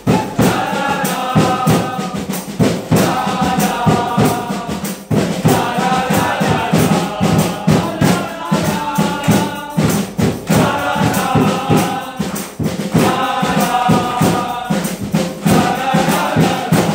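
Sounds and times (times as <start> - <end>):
hand claps: 0.0 - 16.9
men singing together: 0.0 - 16.9.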